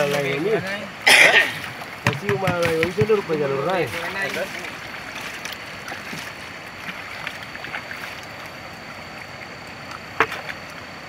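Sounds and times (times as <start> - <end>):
flowing water: 0.0 - 11.0
small splashes: 0.0 - 11.0
water sloshing in a gold pan: 0.0 - 11.0.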